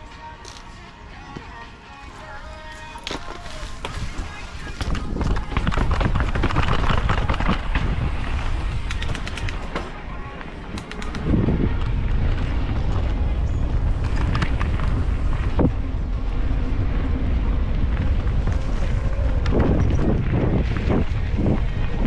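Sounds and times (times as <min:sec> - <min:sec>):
bike knocking and rattling: 0:02.7 - 0:22.0
wind buffeting microphone: 0:03.5 - 0:22.0.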